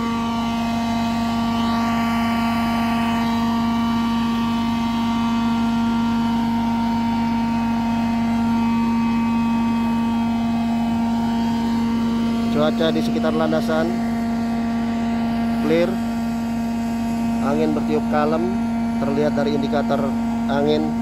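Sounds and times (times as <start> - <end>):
constant low machine hum: 0.0 - 21.0.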